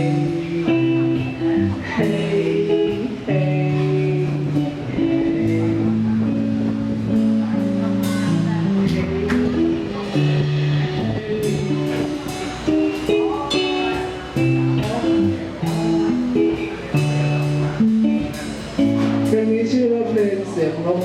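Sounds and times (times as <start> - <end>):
rock band playing instrumental: 0.0 - 21.0.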